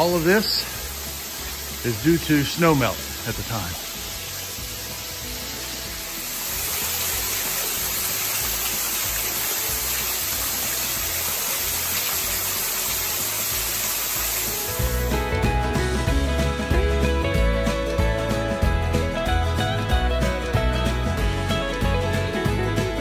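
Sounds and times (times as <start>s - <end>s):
faint background music: 0.0s - 23.0s
small waterfall splashing: 0.0s - 23.0s.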